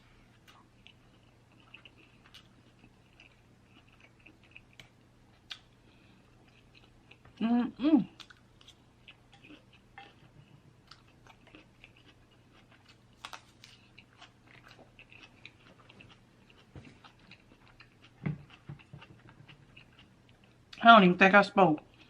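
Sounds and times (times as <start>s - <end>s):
person chewing food: 0.0s - 7.4s, 8.1s - 20.8s.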